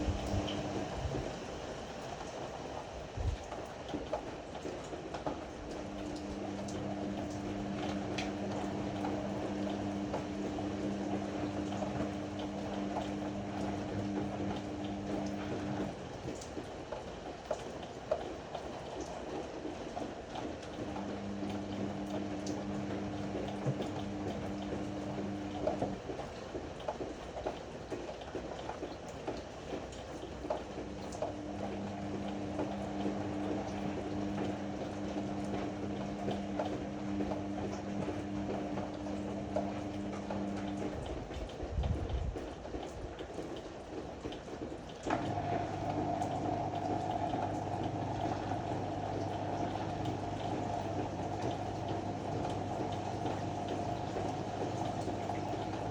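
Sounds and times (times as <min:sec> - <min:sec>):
washing machine motor humming: 0:00.0 - 0:55.9
water and laundry sloshing: 0:00.0 - 0:55.9.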